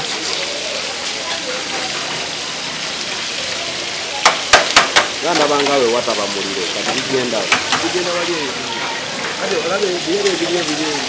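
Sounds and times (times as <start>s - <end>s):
chicken sizzling: 0.0s - 11.0s.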